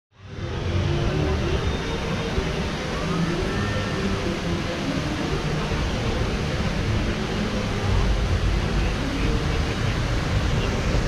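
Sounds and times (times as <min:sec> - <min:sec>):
faint voices: 0:00.2 - 0:11.0.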